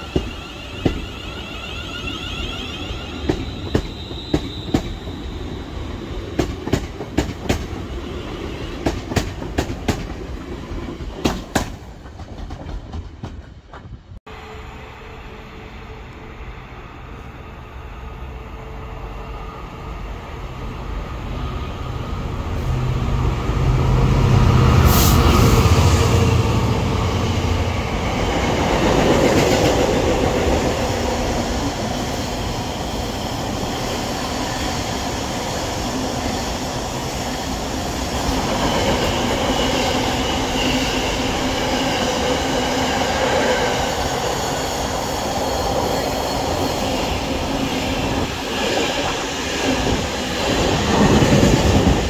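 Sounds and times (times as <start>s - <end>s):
freight train passing: 0.0s - 52.0s.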